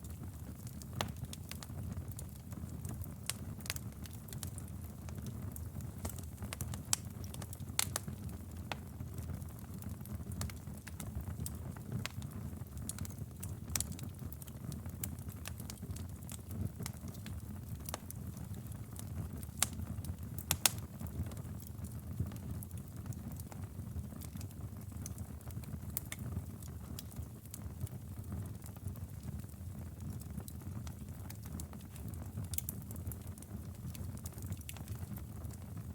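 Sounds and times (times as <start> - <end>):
logs crackling and popping: 0.0 - 35.9
wood fire burning: 0.0 - 35.9.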